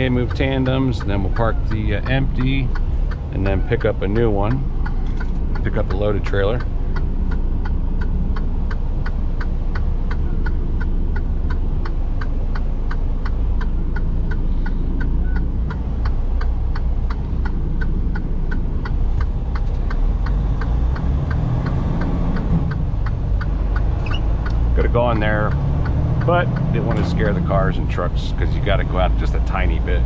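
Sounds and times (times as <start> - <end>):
diesel engine rumble: 0.0 - 30.0
turn signal ticking: 0.0 - 30.0.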